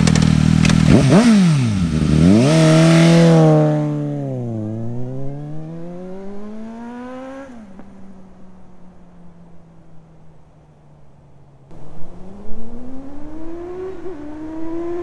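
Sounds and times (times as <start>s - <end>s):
motorcycle accelerating and shifting: 0.0s - 15.0s.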